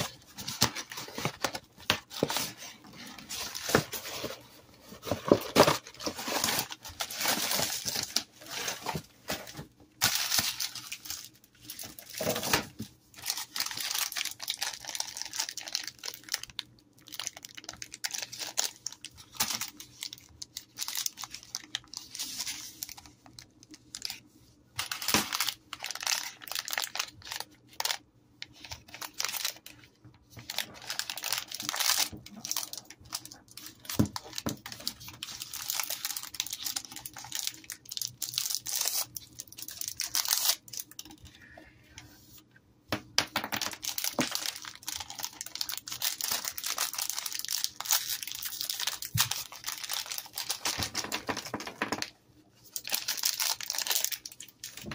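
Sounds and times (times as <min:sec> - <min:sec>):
plastic wrappers crinkling: 0:00.0 - 0:41.3, 0:43.2 - 0:54.9.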